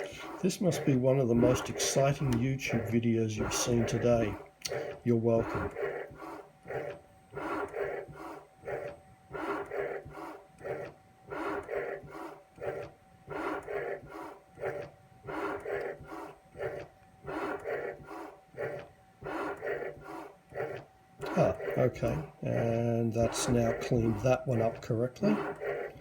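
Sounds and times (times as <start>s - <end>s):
machine motors pulsing: 0.0s - 26.0s.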